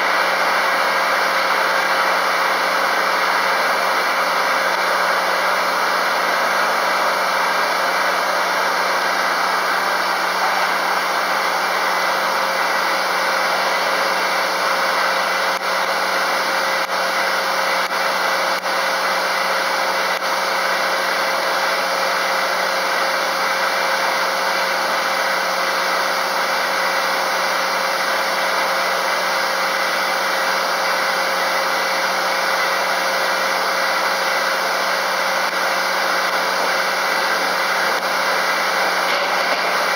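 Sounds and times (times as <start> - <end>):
circular saw running: 0.0 - 39.9.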